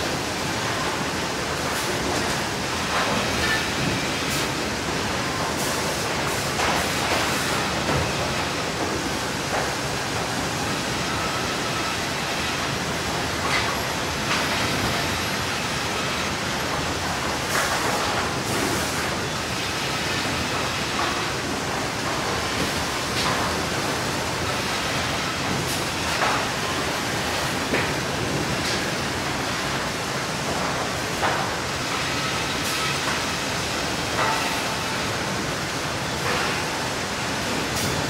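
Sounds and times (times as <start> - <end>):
sawmill machinery running: 0.0 - 38.0.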